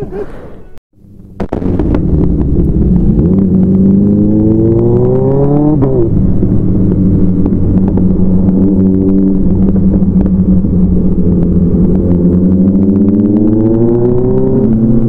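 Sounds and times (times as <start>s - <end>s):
motorcycle engine accelerating: 1.0s - 15.0s.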